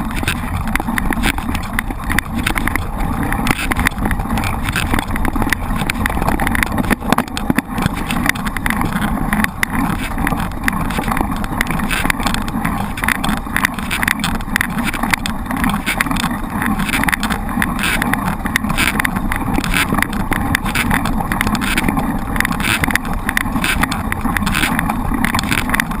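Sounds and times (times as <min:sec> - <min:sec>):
bike rattles and knocks: 0:00.0 - 0:26.0
bike tyres rumbling: 0:00.0 - 0:26.0.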